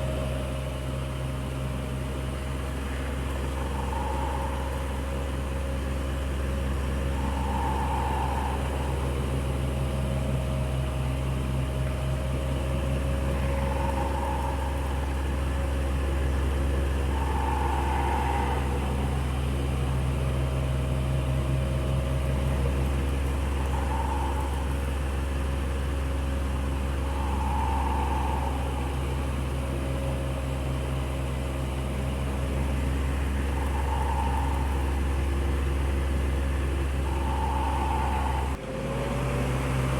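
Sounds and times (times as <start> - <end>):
electric fan motor hum: 0.0 - 38.6.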